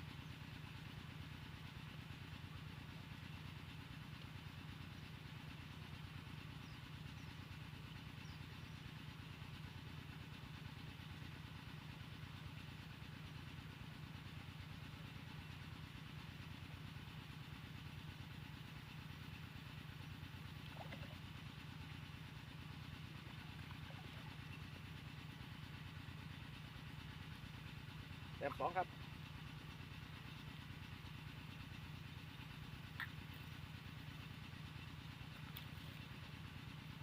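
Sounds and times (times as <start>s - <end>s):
small engine idling: 0.0s - 37.0s.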